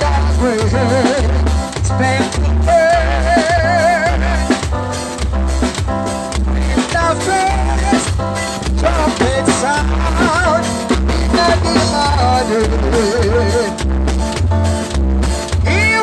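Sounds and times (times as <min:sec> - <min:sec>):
drums: 0:00.0 - 0:16.0
heavy regular bass beat: 0:00.0 - 0:16.0
keyboard melody: 0:00.0 - 0:16.0.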